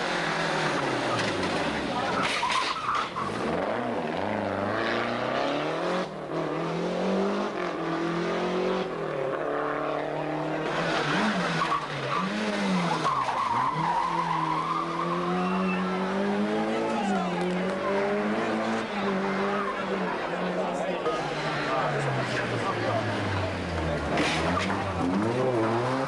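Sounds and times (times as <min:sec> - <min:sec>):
rally car engines at full throttle: 0:00.0 - 0:26.0.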